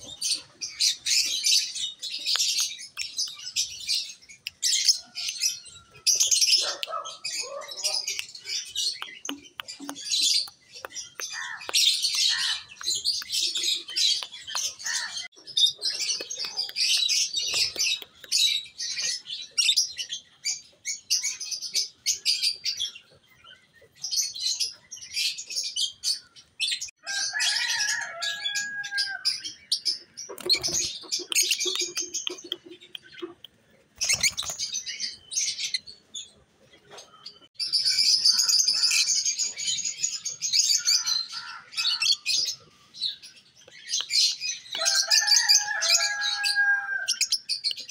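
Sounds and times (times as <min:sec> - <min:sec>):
lovebirds chattering: 0:00.0 - 0:23.0, 0:28.5 - 0:46.5.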